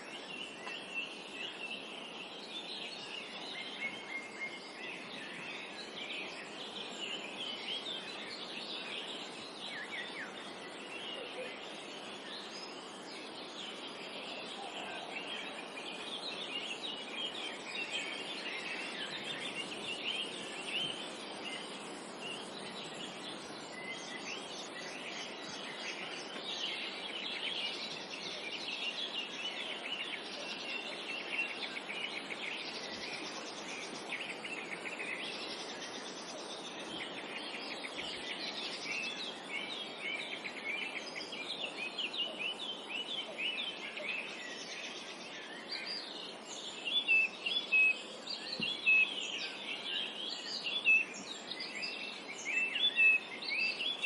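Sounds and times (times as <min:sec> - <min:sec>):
soft forest background hiss: 0:00.0 - 0:54.0
songbirds chirping and singing: 0:00.0 - 0:54.0.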